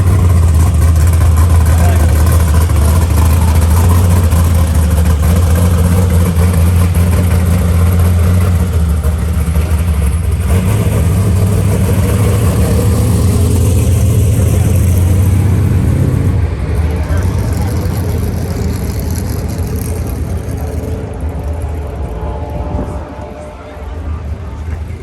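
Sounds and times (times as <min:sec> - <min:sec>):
race car engine idling loudly: 0:00.0 - 0:25.0.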